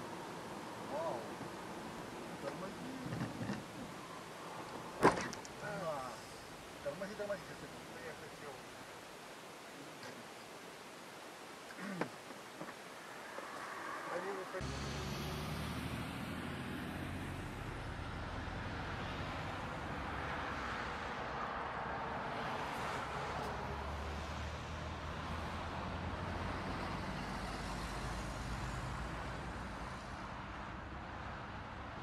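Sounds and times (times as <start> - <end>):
city street traffic: 0.0 - 10.6, 11.7 - 32.0.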